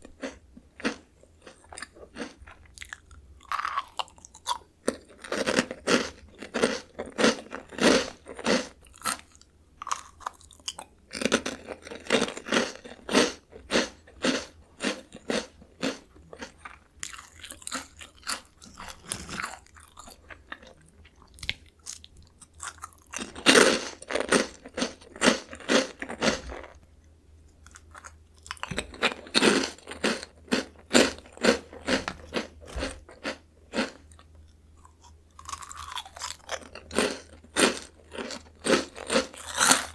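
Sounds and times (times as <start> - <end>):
crunchy crackers being chewed: 0.0 - 39.9.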